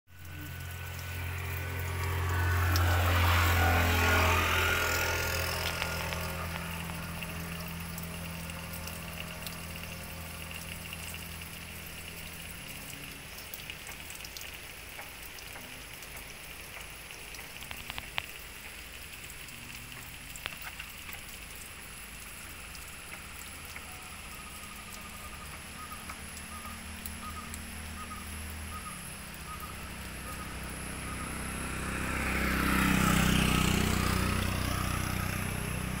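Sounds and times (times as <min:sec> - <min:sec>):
water dripping on rock: 0:00.2 - 0:31.3.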